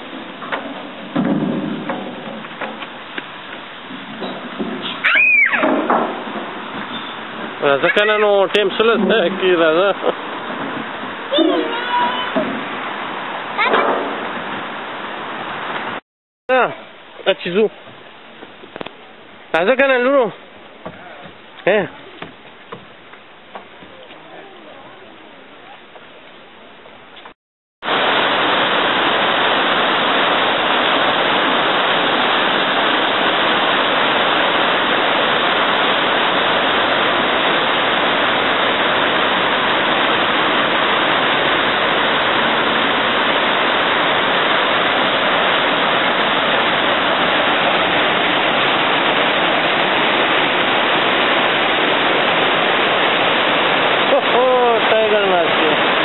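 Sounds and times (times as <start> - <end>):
river rushing over rocks: 0.0 - 25.7, 27.9 - 56.0.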